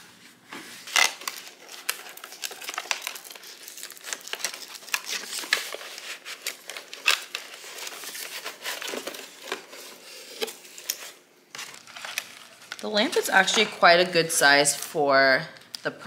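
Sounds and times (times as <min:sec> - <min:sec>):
packaging crinkling and rustling: 0:00.6 - 0:14.2.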